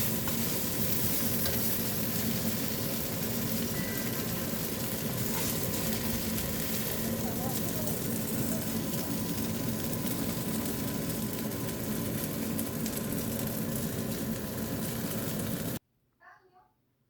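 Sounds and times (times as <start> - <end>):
constant low hum: 0.0 - 15.8
rice cakes sizzling in oil: 0.0 - 15.8.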